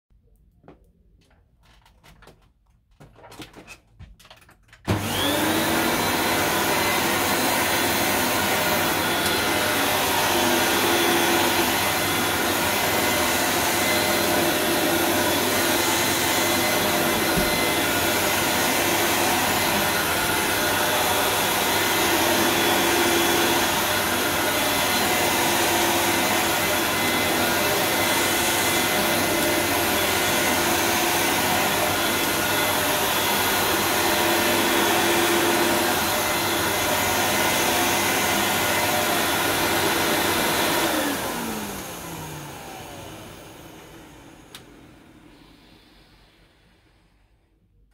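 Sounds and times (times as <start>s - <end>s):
vacuum cleaner motor whining: 4.9s - 46.9s.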